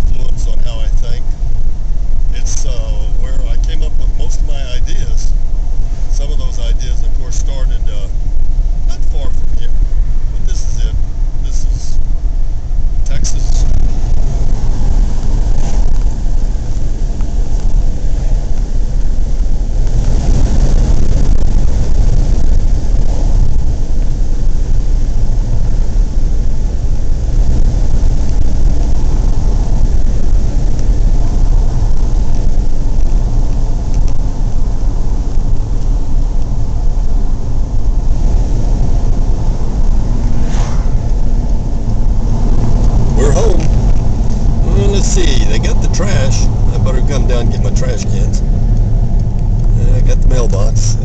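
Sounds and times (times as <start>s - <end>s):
car cabin road and engine rumble: 0.0s - 51.0s.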